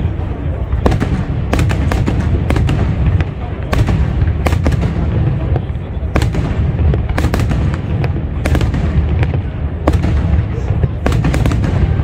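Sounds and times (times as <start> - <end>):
firework bangs: 0.0 - 12.0
low rumble of firework bursts: 0.0 - 12.0.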